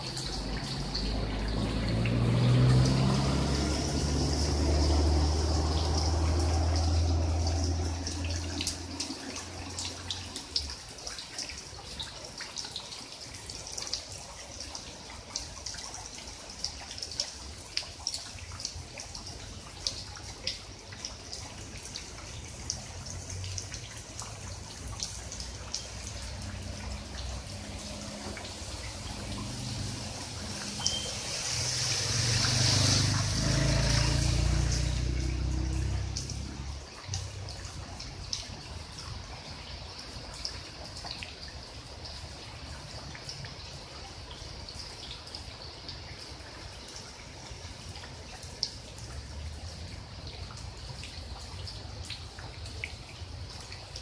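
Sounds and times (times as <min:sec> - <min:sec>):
rain falling on water: 0:00.0 - 0:54.0.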